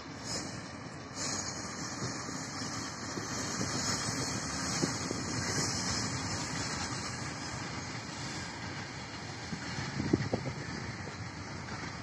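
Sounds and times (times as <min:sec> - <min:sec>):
distant freight train wheels rolling: 0:00.0 - 0:12.0.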